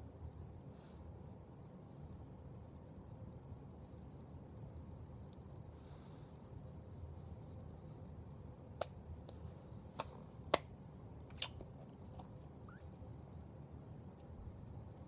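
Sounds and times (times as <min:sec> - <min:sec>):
low steady room hum: 0:00.0 - 0:15.0.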